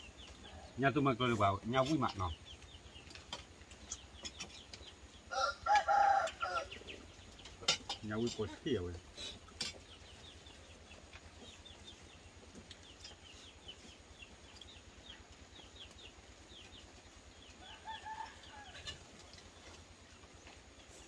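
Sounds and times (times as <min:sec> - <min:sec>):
chickens peeping: 0:00.0 - 0:21.0.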